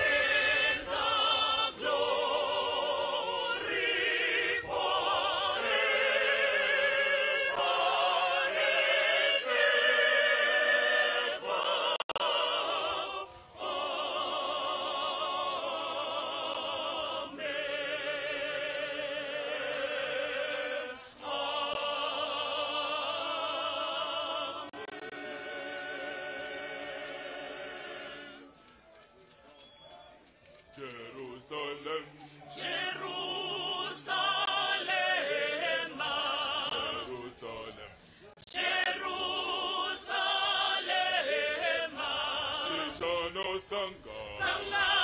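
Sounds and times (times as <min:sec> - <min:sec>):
group of voices singing: 0:00.0 - 0:28.6, 0:30.8 - 0:45.0.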